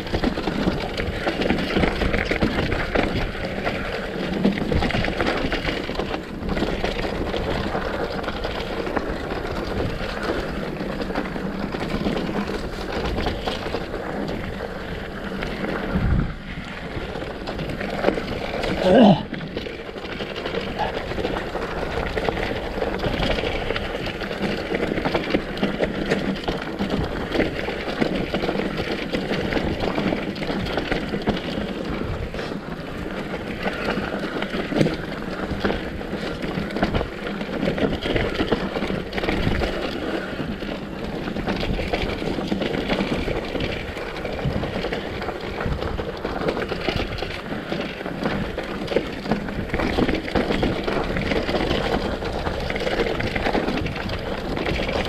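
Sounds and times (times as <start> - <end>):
bike rattling over bumps: 0.0 - 55.0
tyres crunching over dirt: 0.0 - 55.0.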